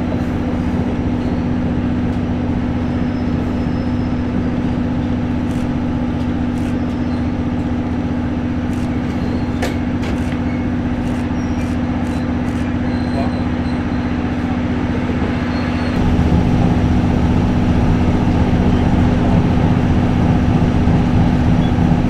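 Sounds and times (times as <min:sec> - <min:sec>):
constant low hum: 0:00.0 - 0:22.0
train running rumble: 0:00.0 - 0:22.0.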